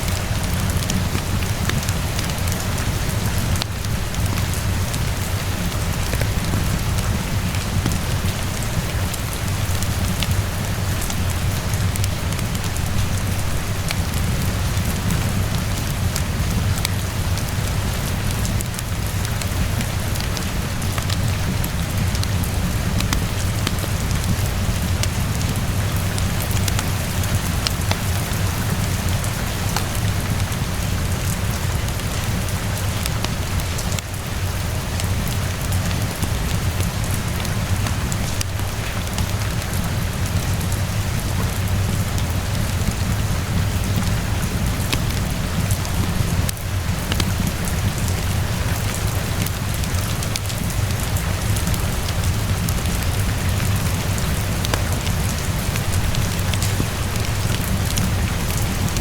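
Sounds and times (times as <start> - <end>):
steady rainfall: 0.0 - 59.0
wood fire crackling: 0.0 - 59.0.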